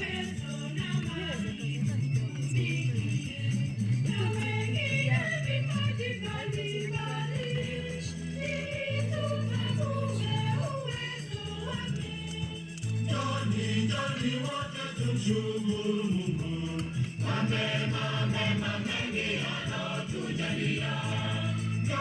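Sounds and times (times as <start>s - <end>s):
choir singing: 0.0s - 22.0s
low bass notes: 0.0s - 22.0s.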